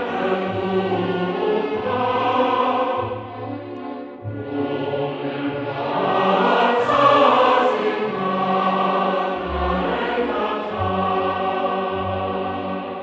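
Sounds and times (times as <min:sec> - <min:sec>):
choir singing long notes: 0:00.0 - 0:13.0.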